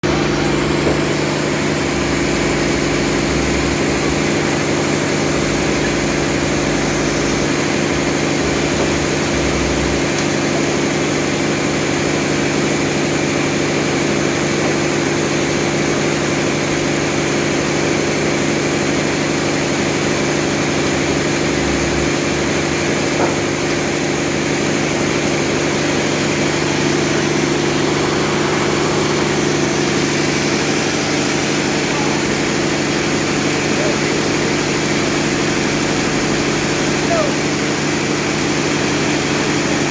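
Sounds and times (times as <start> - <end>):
motor humming steadily: 0.0 - 39.9.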